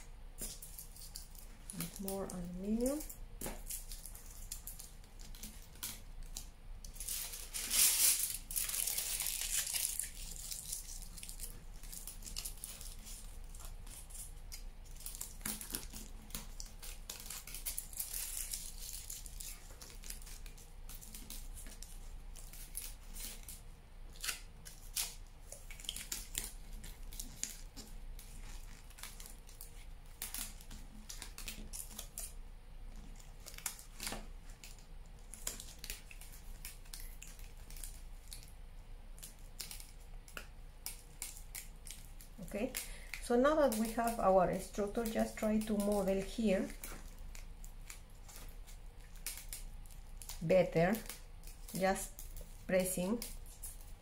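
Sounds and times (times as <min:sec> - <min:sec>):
aluminium foil crinkling: 0:00.0 - 0:54.0.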